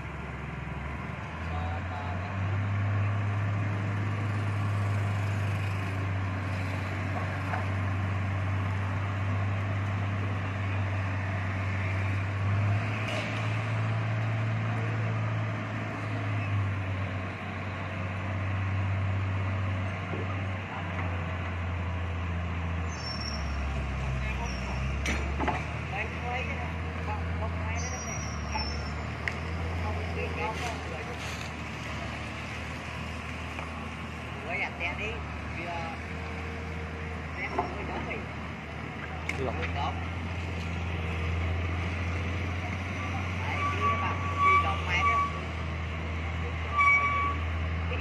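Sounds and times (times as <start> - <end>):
engine low drone: 0.0 - 48.0.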